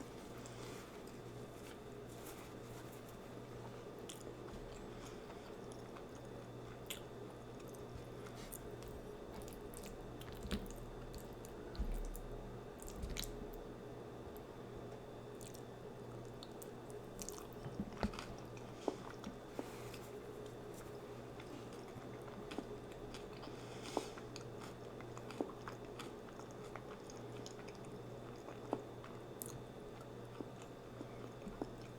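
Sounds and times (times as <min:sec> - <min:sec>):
person chewing food: 0:00.0 - 0:13.4, 0:15.3 - 0:31.9
faint steady hum: 0:00.0 - 0:31.9.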